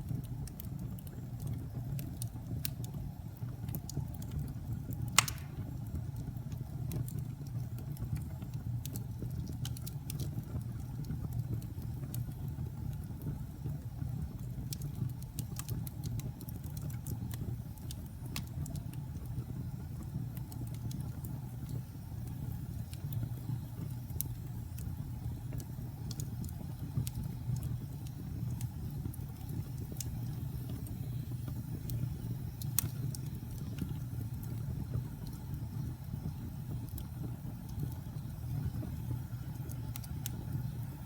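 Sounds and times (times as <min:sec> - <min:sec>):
burning logs crackling and popping: 0:00.0 - 0:41.0
low rumble of flames: 0:00.0 - 0:41.0.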